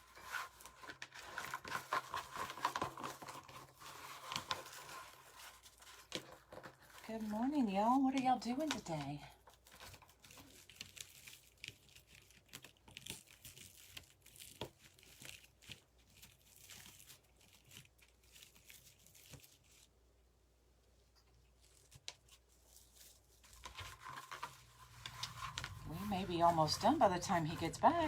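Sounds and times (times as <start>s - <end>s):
plastic mesh crinkling: 0.0s - 20.0s, 21.1s - 28.0s.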